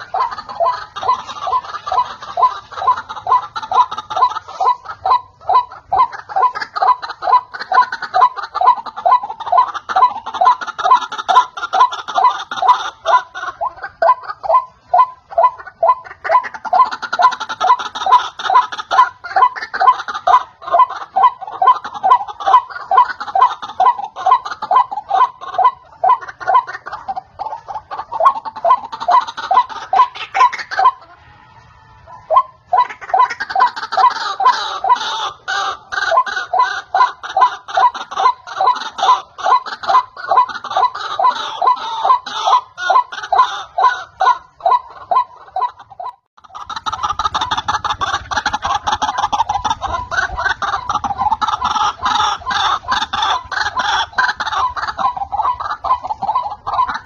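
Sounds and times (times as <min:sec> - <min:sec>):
bird calling repeatedly: 0:00.0 - 0:31.2, 0:32.0 - 0:57.0.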